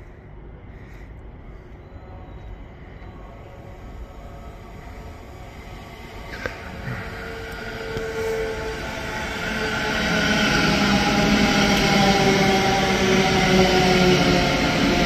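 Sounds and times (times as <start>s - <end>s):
whine of steady tones: 0.0s - 15.0s
electric train arriving: 1.4s - 15.0s.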